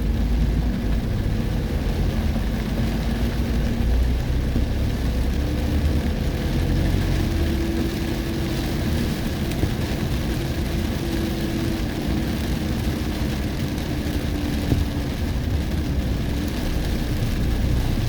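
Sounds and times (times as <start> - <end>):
car engine and road hum: 0.0 - 18.0.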